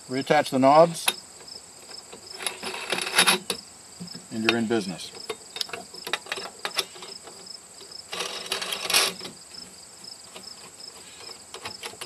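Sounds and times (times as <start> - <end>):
insects chirping: 0.0 - 12.0
rifle rest hardware clicking and rattling: 0.9 - 12.0
scraping rattle: 1.0 - 12.0.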